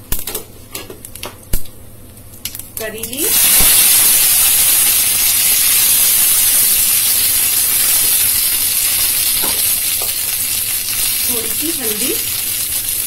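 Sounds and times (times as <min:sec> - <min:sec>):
seeds sizzling in hot oil: 0:02.5 - 0:13.0.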